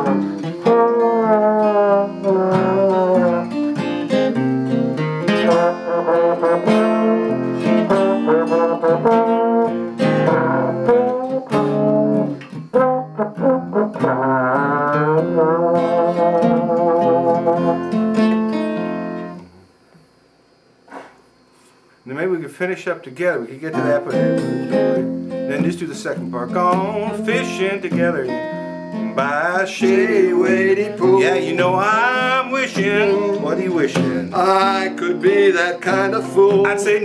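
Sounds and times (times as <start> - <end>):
slide trombone melody: 0.0 - 19.5, 23.8 - 37.0
acoustic guitar accompaniment: 0.0 - 19.6, 23.1 - 37.0.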